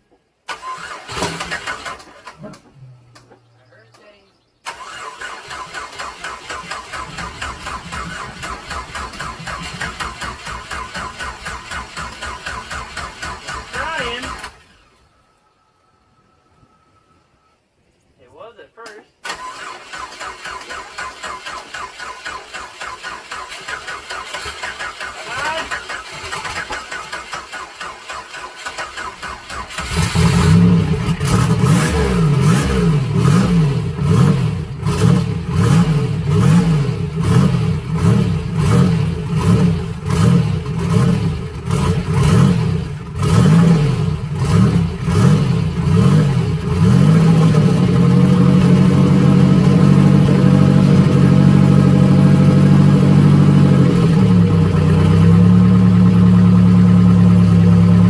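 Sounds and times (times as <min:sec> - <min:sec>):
car engine starting and idling: 0:00.4 - 0:17.6, 0:19.2 - 0:58.0.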